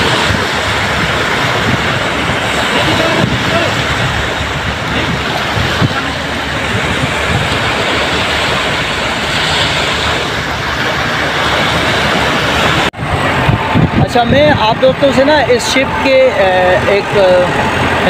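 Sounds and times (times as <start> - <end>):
waves washing on shore: 0.0 - 18.0
wind buffeting microphone: 0.0 - 18.0.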